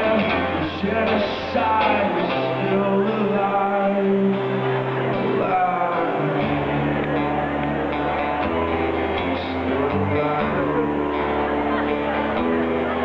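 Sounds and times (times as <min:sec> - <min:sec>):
live rock music with guitar: 0:00.0 - 0:13.0
low bass notes: 0:00.0 - 0:13.0.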